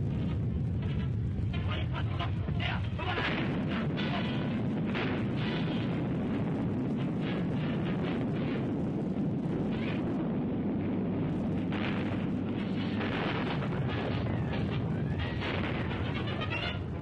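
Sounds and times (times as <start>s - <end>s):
blasts of noise: 0.0s - 17.0s
deep volcanic rumble: 0.0s - 17.0s.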